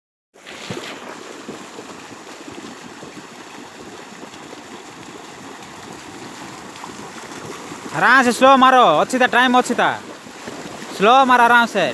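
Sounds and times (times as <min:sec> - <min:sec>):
feet splashing through water: 0:00.4 - 0:11.9
rushing water: 0:00.4 - 0:11.9.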